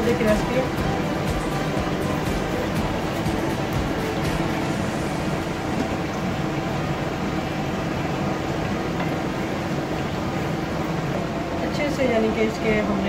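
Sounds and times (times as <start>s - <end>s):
steady rushing hum: 0.0s - 13.0s.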